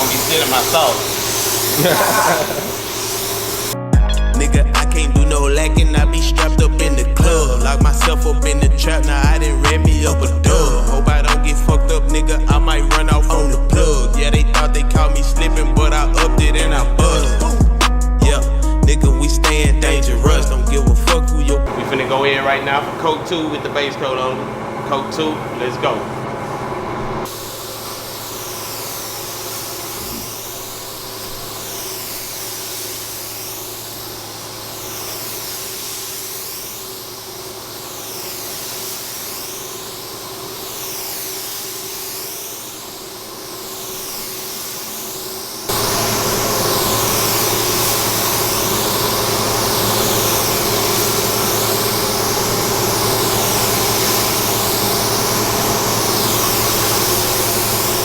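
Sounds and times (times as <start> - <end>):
paint spray gun hissing: 0.0 - 21.9, 27.2 - 58.0
steady low hum: 0.0 - 58.0.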